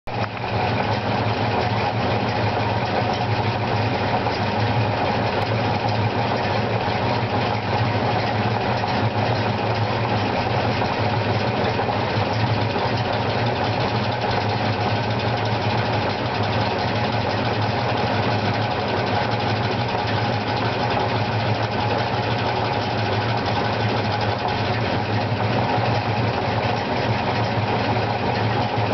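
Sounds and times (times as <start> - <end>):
car engine idling: 0.1 - 28.9
clutch clicking: 0.2 - 28.9.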